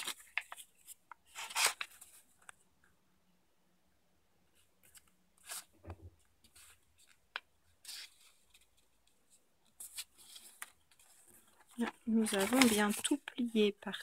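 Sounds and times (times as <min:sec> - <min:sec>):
paper rustling and crinkling: 0:00.0 - 0:02.6, 0:04.8 - 0:13.8.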